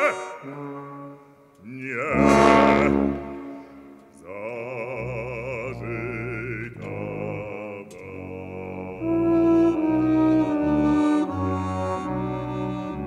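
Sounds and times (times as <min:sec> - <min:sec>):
brass quintet playing: 0:00.0 - 0:04.2, 0:05.0 - 0:13.0
operatic bass singing: 0:00.0 - 0:13.0.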